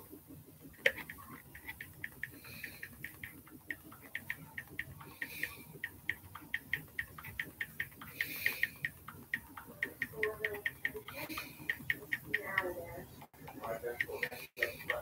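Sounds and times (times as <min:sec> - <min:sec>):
computer keyboard typing: 0:00.7 - 0:15.0.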